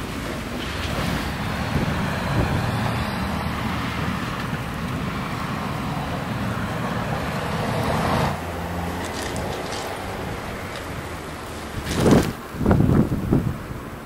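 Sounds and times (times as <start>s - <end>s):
street traffic rumble: 0.0s - 14.0s
wind buffeting microphone: 0.0s - 14.0s.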